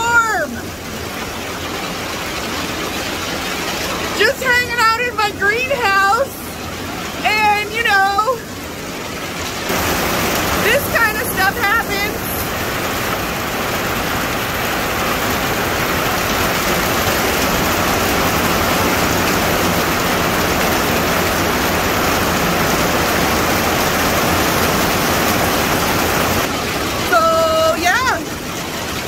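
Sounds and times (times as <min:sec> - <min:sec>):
heavy rain on plastic roof: 0:00.0 - 0:29.0.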